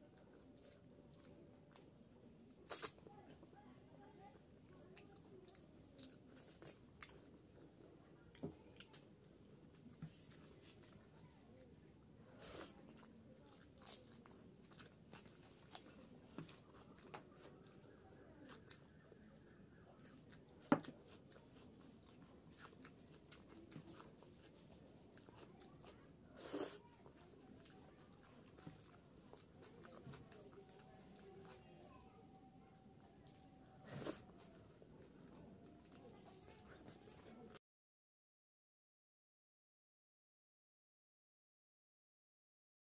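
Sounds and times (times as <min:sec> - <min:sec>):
person chewing food: 0:00.0 - 0:03.4, 0:04.6 - 0:37.5.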